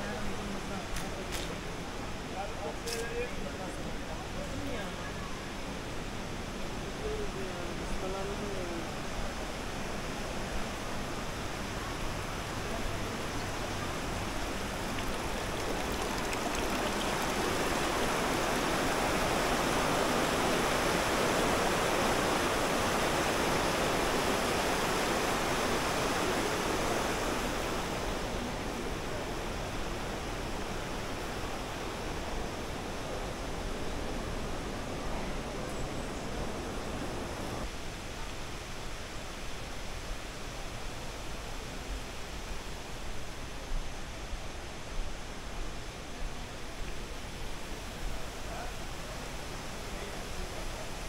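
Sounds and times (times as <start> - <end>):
stream water rushing: 3.4 - 51.0.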